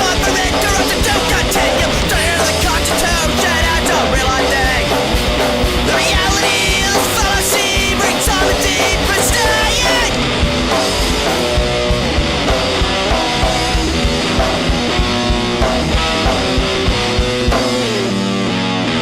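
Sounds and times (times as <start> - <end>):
bass guitar: 0.0 - 19.0
distorted electric guitar: 0.0 - 19.0
drums driving beat: 0.0 - 19.0.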